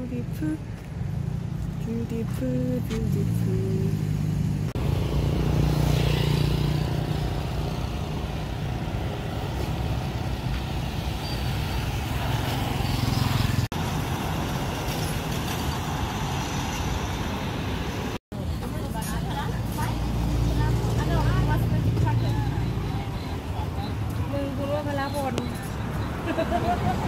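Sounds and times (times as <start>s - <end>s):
cars and motorbikes driving past: 0.3s - 27.0s.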